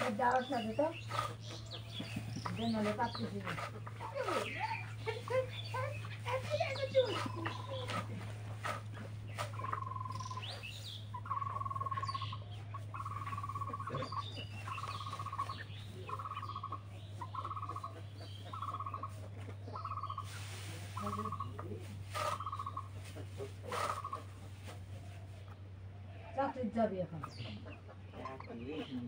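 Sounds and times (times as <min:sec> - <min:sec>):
animal trilled call: 0:00.0 - 0:25.2
steady low hum: 0:00.0 - 0:29.0.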